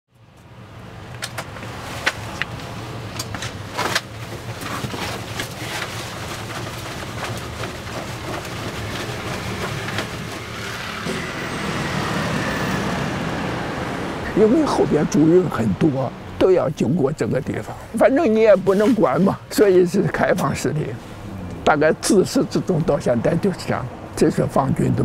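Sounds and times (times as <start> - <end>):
street traffic: 0.1 - 25.0.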